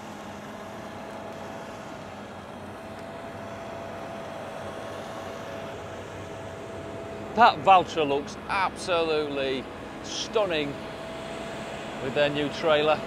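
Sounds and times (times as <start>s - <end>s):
combine harvester and tractor droning: 0.0s - 13.0s
steady whining tone: 0.0s - 13.0s.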